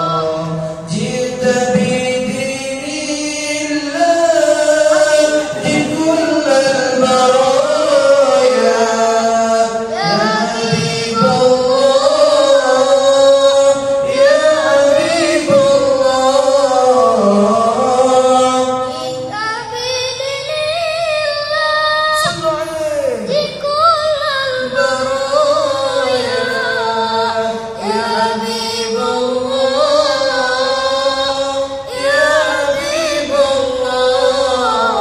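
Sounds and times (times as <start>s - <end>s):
boy singing into a microphone: 0.0s - 35.0s.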